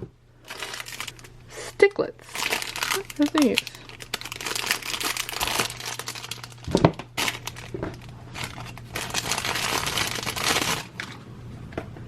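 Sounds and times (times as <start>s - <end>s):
packaging crinkling: 0.4s - 1.4s, 2.2s - 11.2s.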